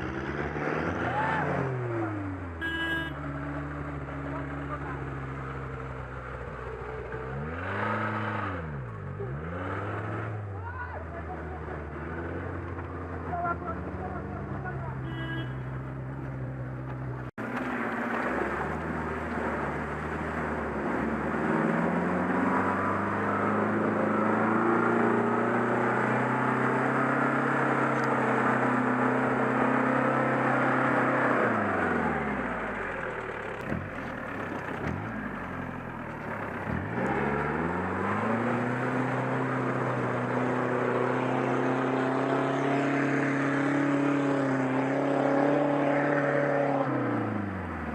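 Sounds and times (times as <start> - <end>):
off-road engine revving under load: 0.0 - 17.3, 18.4 - 47.9.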